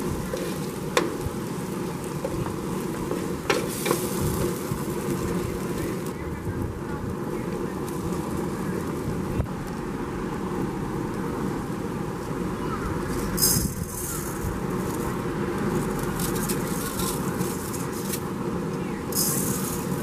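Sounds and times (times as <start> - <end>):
pan cooking on gas grill rumble: 0.0 - 20.0.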